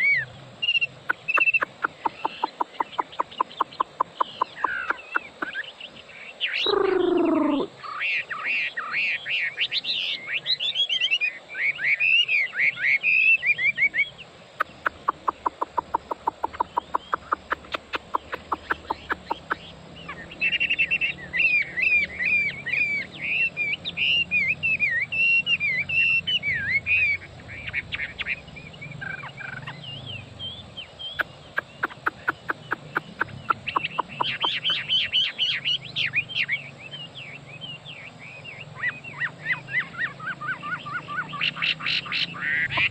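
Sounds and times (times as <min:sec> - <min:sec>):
songbird singing varied song: 0:00.0 - 0:42.9.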